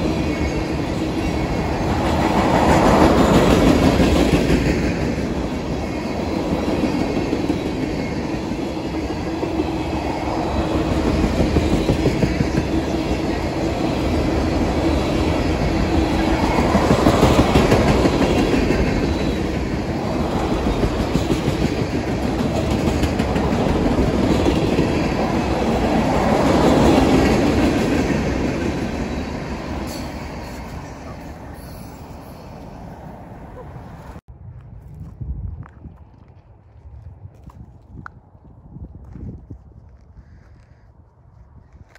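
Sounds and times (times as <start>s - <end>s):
freight train wheels on rails: 0.0s - 34.2s.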